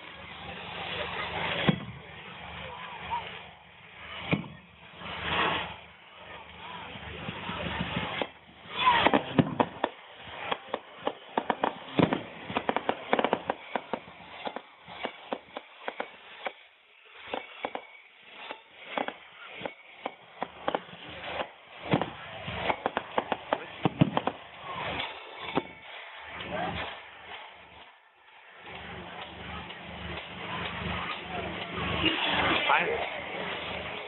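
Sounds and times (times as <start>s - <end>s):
fireworks bangs and cracks: 0.0s - 34.0s.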